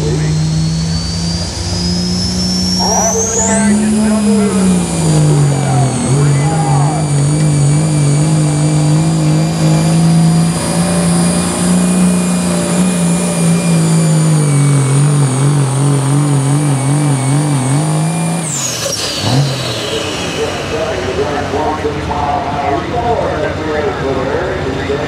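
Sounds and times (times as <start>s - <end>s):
engine at high revs under load: 0.0s - 21.8s
high-pitched whines: 0.0s - 25.0s.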